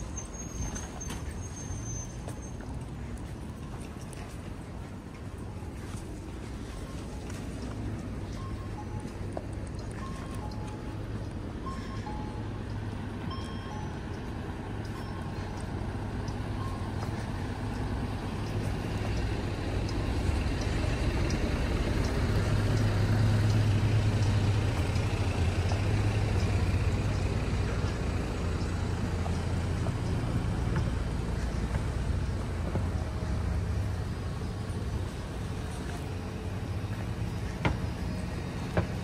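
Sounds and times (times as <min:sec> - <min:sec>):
vehicle engine rumble passing: 0:00.0 - 0:39.0.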